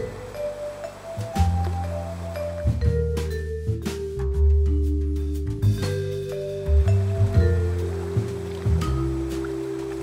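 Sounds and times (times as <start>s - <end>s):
held bass notes: 0.0s - 10.0s.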